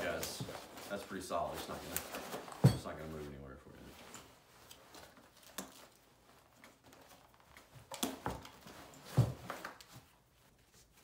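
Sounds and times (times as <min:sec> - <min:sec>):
nylon pack rustling: 0:00.0 - 0:03.2, 0:03.8 - 0:11.0.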